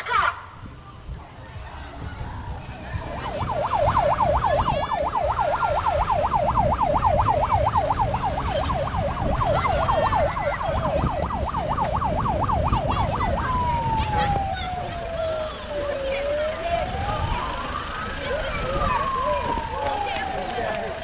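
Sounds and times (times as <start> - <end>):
police siren yelping: 2.0 - 21.0.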